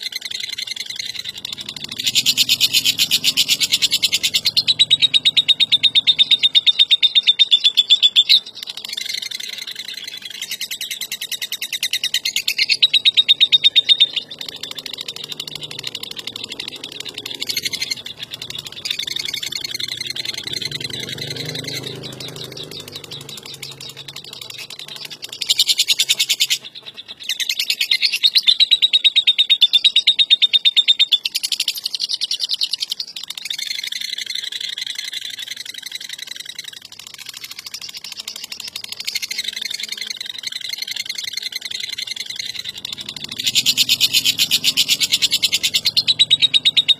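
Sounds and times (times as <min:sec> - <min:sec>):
lovebird harsh chattering trill: 0:00.0 - 0:46.9.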